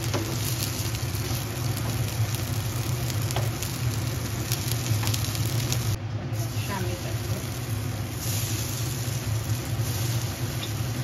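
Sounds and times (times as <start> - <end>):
kebabs sizzling in oil: 0.0 - 11.0
steady low hum: 0.0 - 11.0.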